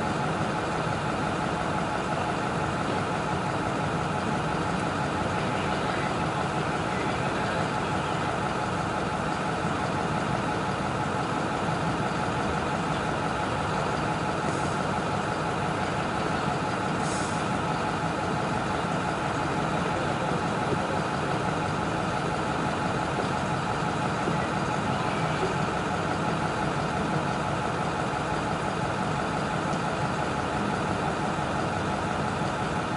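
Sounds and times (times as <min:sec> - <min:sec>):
heavy vehicle engine idling: 0:00.0 - 0:32.9.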